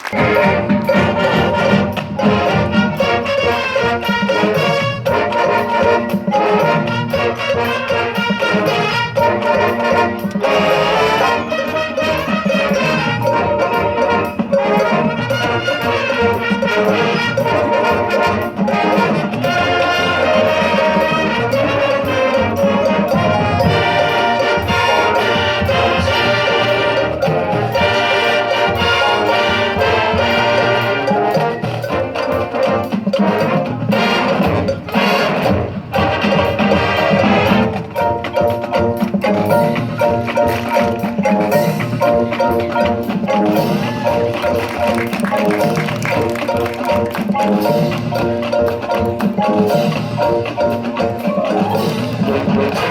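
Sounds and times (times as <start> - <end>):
brass band playing: 0.0 - 52.9
percussion hits: 0.0 - 52.9.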